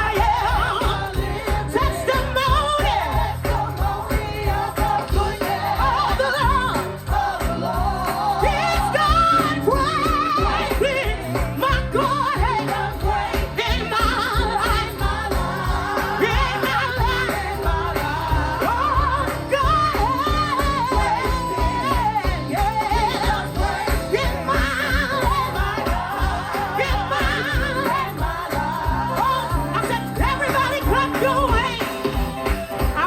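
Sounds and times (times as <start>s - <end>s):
gospel band playing: 0.0s - 33.0s.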